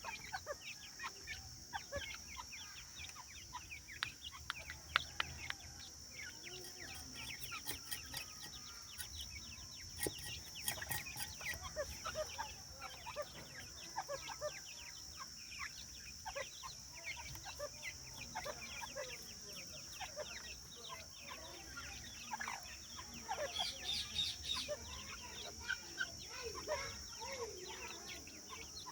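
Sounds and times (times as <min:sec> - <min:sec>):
partridges chirping and clucking: 0:00.0 - 0:28.9.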